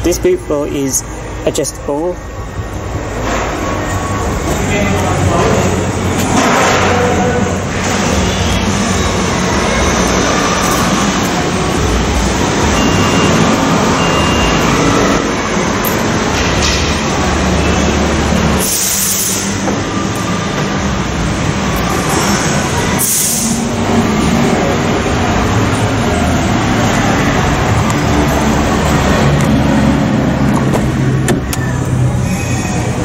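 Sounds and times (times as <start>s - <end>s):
loud mechanical rumble: 0.0s - 33.0s.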